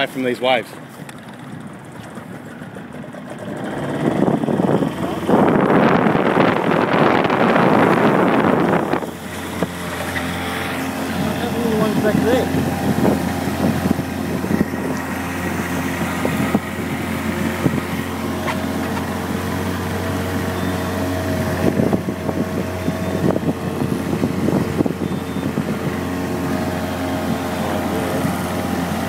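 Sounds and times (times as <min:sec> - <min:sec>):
outboard motor running: 0:00.0 - 0:29.0
hull thumping on waves: 0:00.8 - 0:29.0.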